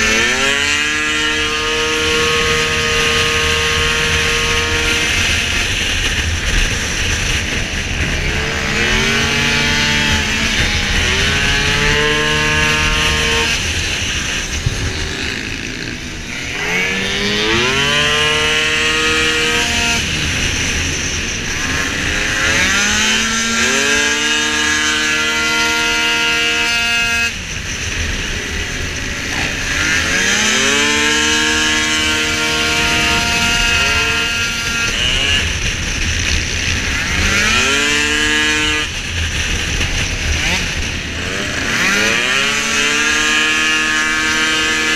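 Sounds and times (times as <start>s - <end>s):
two-stroke scooter engine revving: 0.0s - 44.9s.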